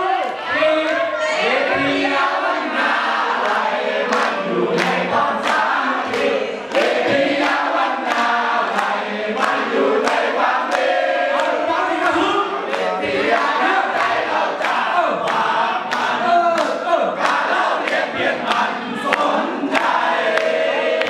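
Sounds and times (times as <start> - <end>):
crowd singing: 0.0 - 21.0.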